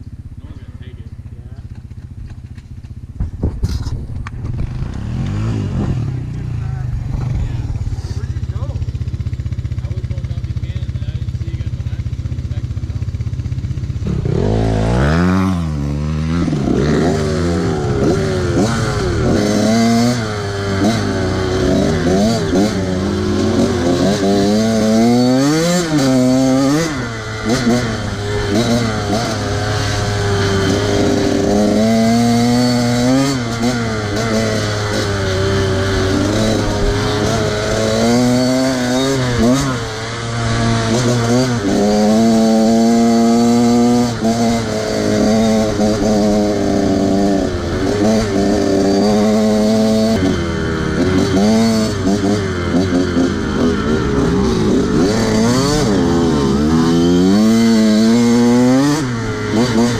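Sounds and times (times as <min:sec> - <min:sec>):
small engine revving: 0:03.6 - 0:59.9.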